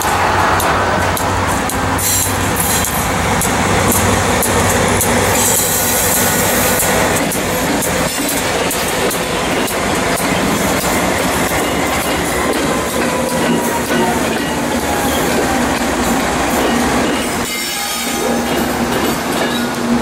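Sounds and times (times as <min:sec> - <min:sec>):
diesel locomotive engines: 0:00.0 - 0:20.0.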